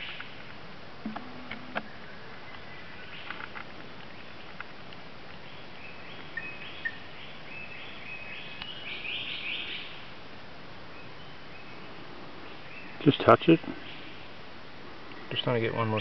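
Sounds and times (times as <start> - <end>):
forest background hiss: 0.0 - 16.0.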